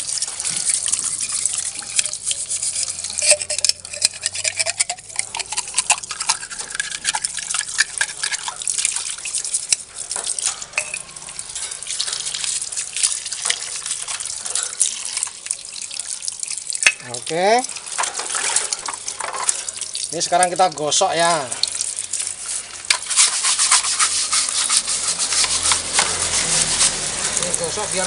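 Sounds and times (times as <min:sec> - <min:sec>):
tap water splashing on plastic: 0:00.0 - 0:03.8, 0:04.4 - 0:28.0
brush scrubbing inside tube: 0:00.0 - 0:16.5, 0:17.8 - 0:28.0.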